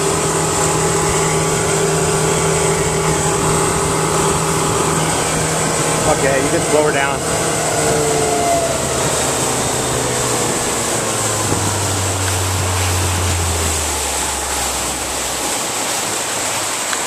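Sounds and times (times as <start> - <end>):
outboard motor drone: 0.0 - 17.0
wind and water rushing past hull: 0.0 - 17.0.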